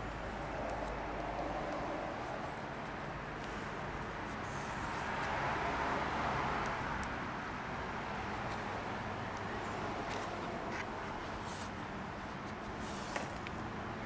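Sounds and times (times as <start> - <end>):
distant road traffic: 0.0 - 14.0.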